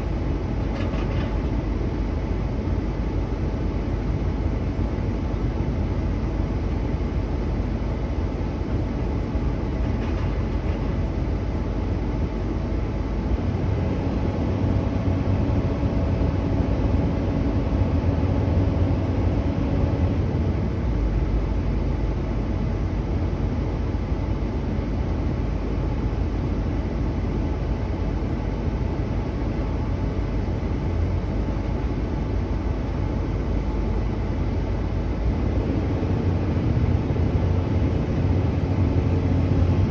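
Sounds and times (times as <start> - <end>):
heavy engine droning: 0.0 - 39.9.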